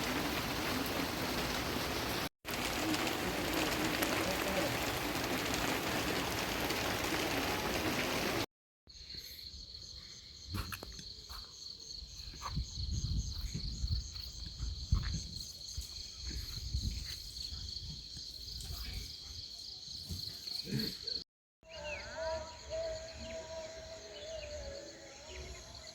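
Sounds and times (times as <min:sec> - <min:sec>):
crickets and insects chorus: 0:02.6 - 0:25.9.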